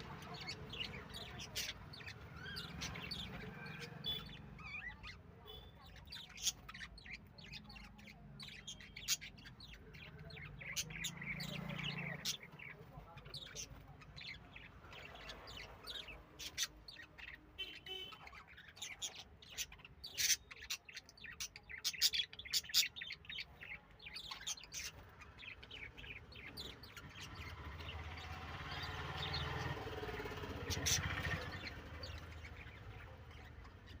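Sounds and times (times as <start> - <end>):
lovebirds chirping: 0.0 - 34.0.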